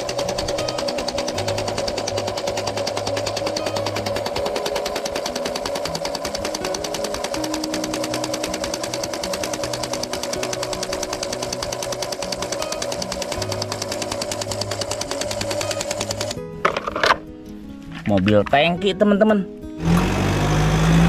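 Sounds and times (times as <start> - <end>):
toy rock-breaker hammering rock: 0.0 - 17.2.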